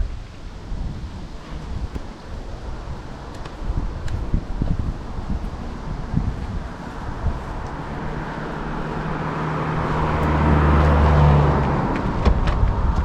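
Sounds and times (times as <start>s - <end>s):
vehicle passing by: 2.4s - 13.0s.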